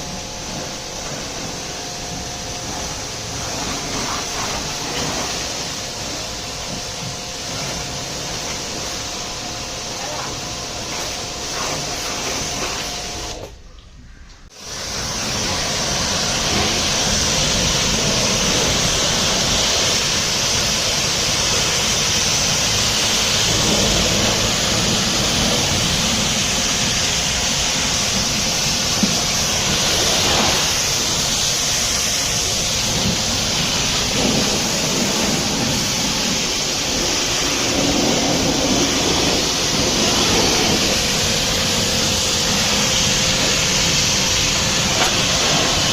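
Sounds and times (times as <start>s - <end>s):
high-pressure water jet spraying: 0.0s - 13.5s, 14.5s - 45.9s.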